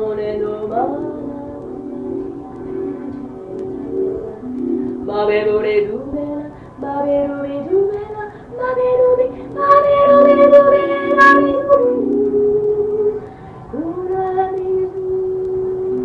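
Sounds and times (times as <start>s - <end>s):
ambient music with low tones: 0.0s - 16.0s
high voice singing held notes: 0.0s - 16.0s.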